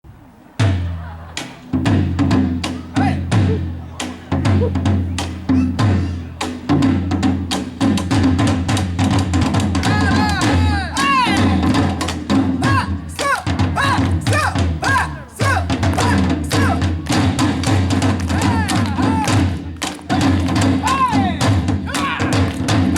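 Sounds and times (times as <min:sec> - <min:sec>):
booming drums: 0:00.6 - 0:22.9.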